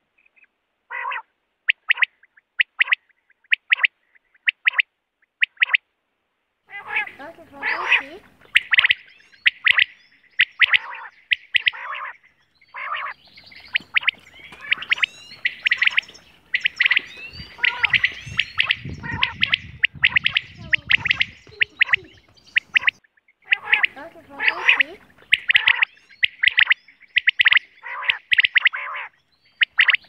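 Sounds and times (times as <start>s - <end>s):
quails calling: 0.2s - 5.8s, 6.7s - 30.0s.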